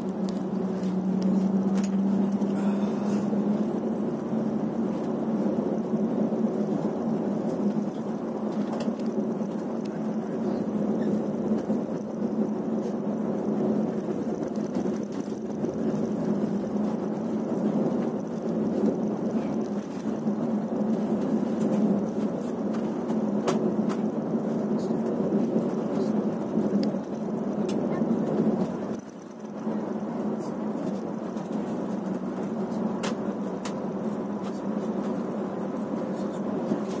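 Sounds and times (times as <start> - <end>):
bus engine drone: 0.0 - 37.0
tyre and road noise: 0.0 - 37.0.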